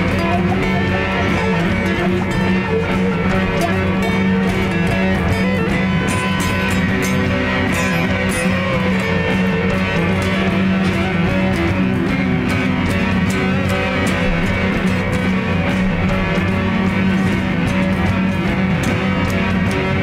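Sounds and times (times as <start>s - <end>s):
electric guitar: 0.0s - 20.0s
live band playing loudly: 0.0s - 20.0s.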